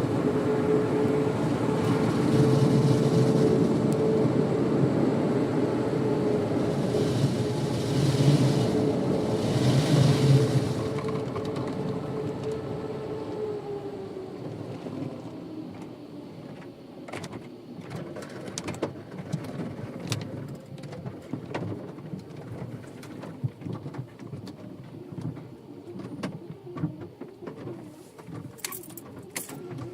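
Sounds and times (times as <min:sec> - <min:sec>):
water rushing in car wash: 0:00.0 - 0:29.9.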